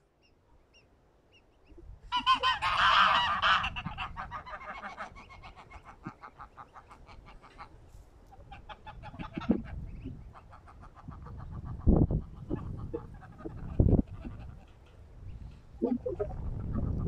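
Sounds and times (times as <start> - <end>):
geese and goslings calling: 0.7 - 17.0.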